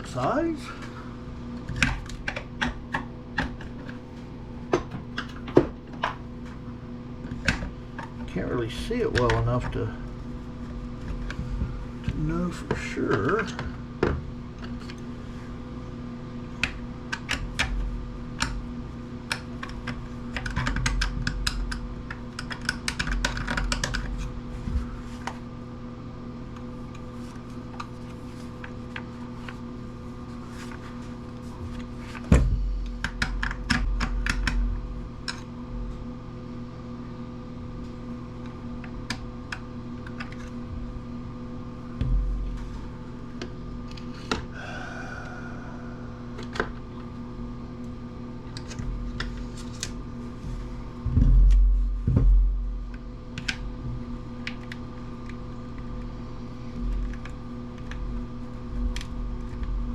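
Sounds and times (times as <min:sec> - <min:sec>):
steady hum: 0:00.0 - 0:59.9.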